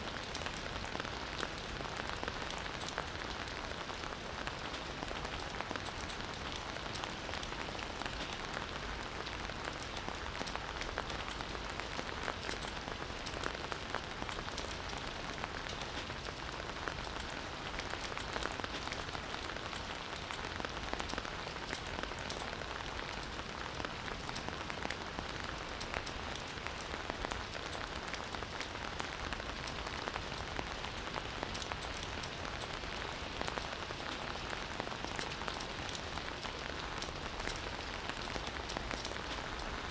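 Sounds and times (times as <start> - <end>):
campfire crackling: 0.1 - 39.9.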